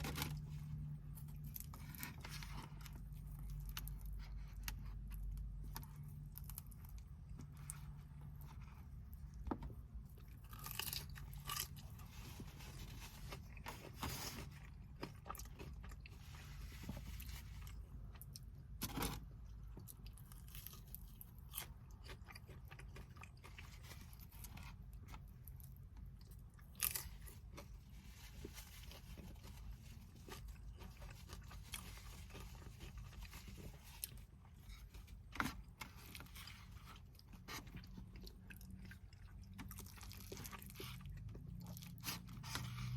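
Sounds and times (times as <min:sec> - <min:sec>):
food crunching: 0:00.0 - 0:42.9
person chewing food: 0:00.0 - 0:42.9.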